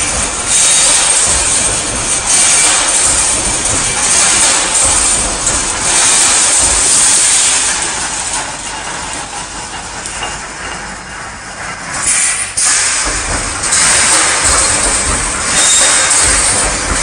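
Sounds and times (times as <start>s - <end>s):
welding machine running: 0.0s - 17.0s.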